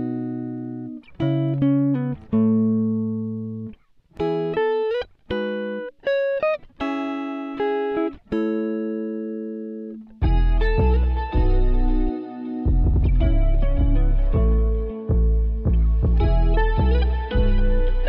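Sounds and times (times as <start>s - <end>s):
plucked guitar: 0.0s - 18.0s.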